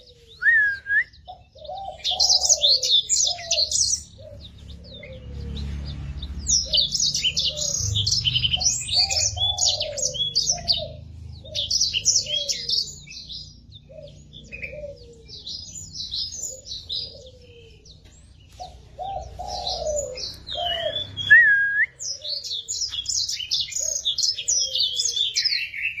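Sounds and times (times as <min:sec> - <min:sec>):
dove cooing: 0:00.0 - 0:05.4, 0:06.6 - 0:21.4, 0:22.0 - 0:26.0
finch twittering song: 0:00.0 - 0:26.0.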